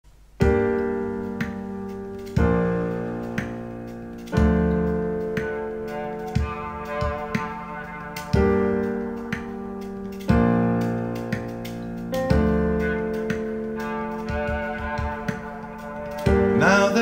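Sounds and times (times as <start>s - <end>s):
piano chords over loudspeakers: 0.3s - 17.0s.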